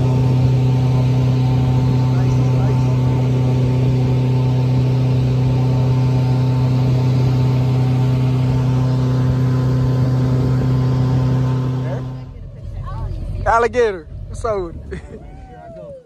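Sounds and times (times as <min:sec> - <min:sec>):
airboat engine and propeller drone: 0:00.0 - 0:16.0.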